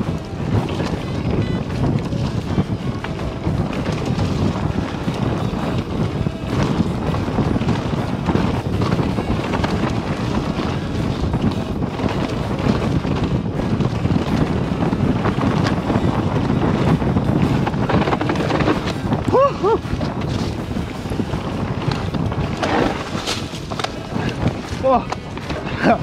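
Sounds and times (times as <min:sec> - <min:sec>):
bike frame rattling and knocking: 0:00.0 - 0:26.0
tyres rolling over dirt: 0:00.0 - 0:26.0
wind on microphone: 0:00.0 - 0:26.0.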